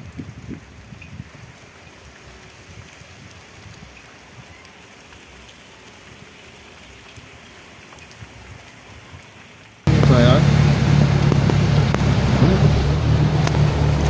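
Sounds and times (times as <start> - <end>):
rain hissing on wet street: 0.0 - 14.0.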